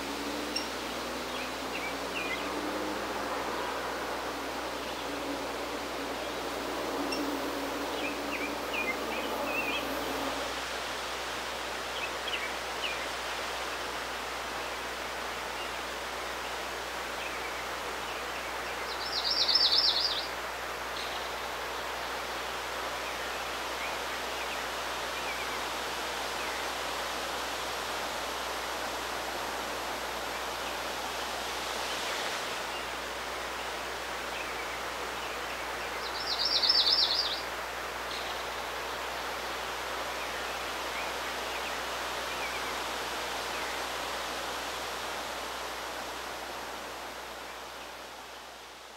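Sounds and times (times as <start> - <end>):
hiss of moving air or water: 0.0 - 48.9.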